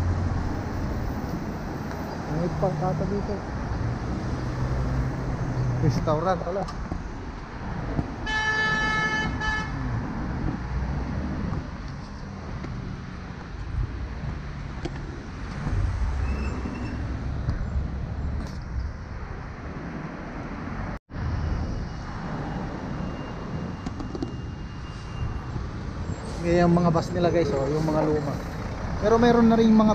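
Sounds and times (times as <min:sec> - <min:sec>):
cars driving past: 0:00.0 - 0:29.9.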